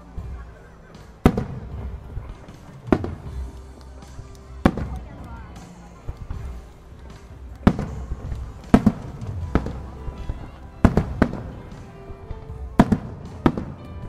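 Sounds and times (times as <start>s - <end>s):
faint music: 0.0s - 14.0s
firework shells bursting: 0.0s - 14.0s.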